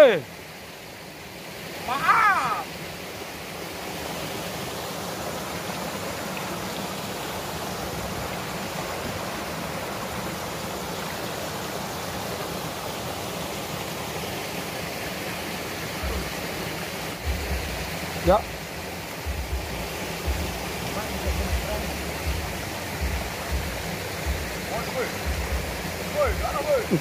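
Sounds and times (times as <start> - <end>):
stream rushing: 0.0 - 27.0.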